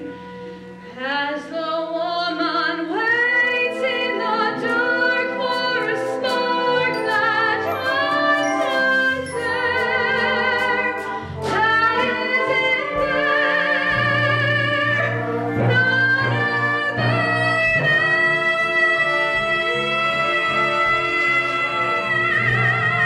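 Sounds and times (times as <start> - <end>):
woman singing with vibrato: 0.9 - 23.0
live instrumental accompaniment: 3.0 - 23.0.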